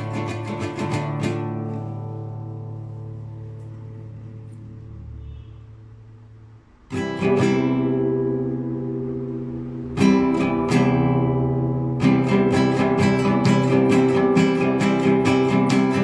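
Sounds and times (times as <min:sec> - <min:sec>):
classical guitar chords: 0:00.0 - 0:16.0.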